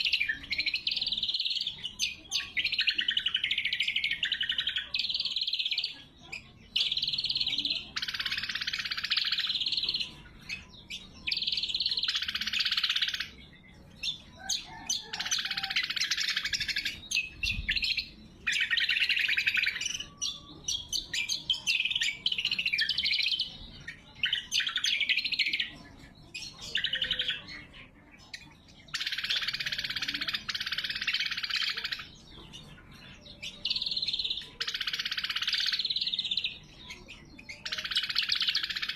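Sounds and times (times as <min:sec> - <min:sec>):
bird singing trilled phrases: 0:00.0 - 0:38.9.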